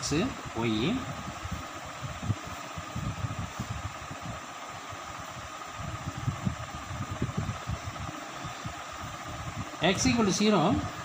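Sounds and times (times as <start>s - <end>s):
room fan humming: 0.0s - 11.0s.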